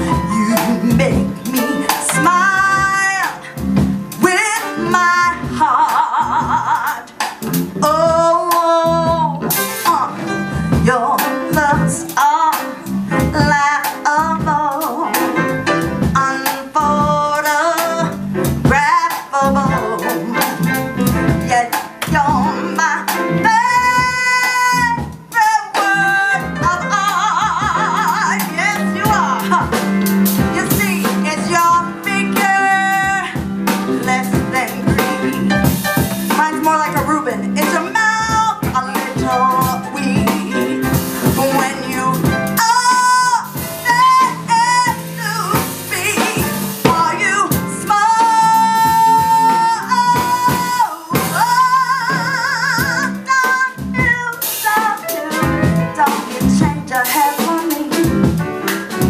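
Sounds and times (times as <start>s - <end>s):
electric bass: 0.0s - 17.4s, 18.0s - 25.3s, 25.9s - 37.6s, 38.2s - 54.2s
piano: 0.0s - 59.0s
woman singing jazz ballad: 0.0s - 59.0s.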